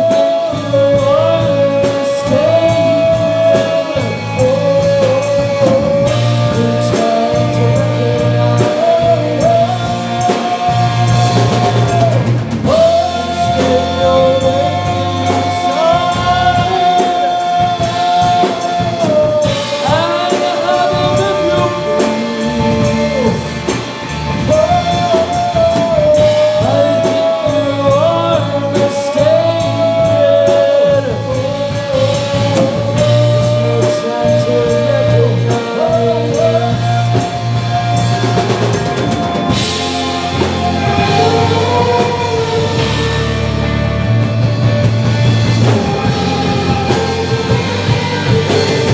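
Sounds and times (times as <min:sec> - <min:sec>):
drum kit: 0:00.0 - 0:48.9
electric guitars: 0:00.0 - 0:48.9
person singing long notes: 0:00.0 - 0:48.9.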